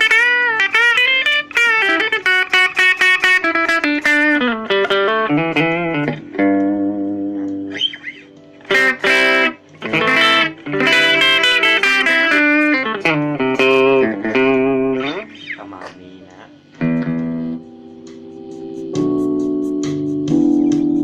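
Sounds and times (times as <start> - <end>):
electric guitar notes and chords: 0.0 - 21.0.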